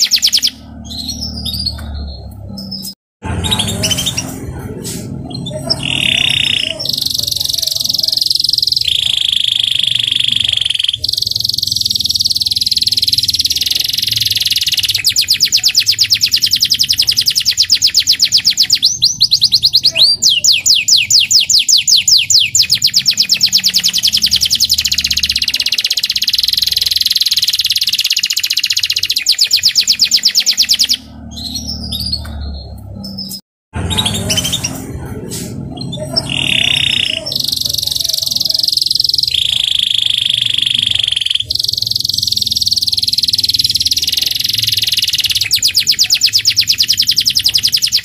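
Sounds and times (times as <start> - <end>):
canary singing rapid trills: 0.0 - 4.4, 5.2 - 35.0, 35.6 - 48.0.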